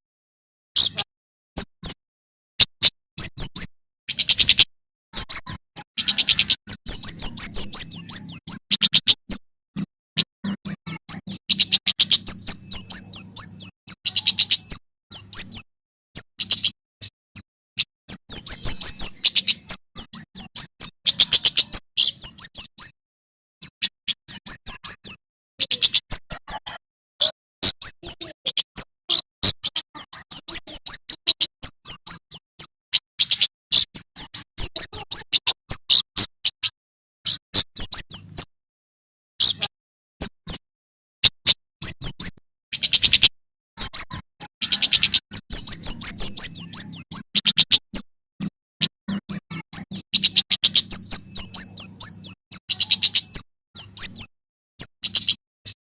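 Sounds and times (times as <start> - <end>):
bird singing high chirps: 0.7 - 2.0, 2.6 - 23.0, 23.6 - 38.5, 39.4 - 55.9.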